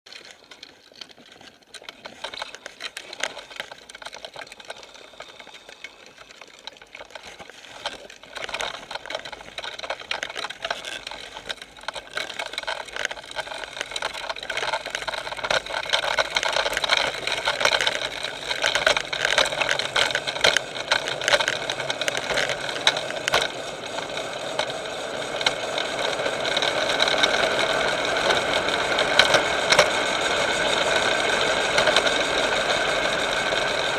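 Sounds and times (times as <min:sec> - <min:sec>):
wheels rattling on asphalt: 0:00.1 - 0:33.9.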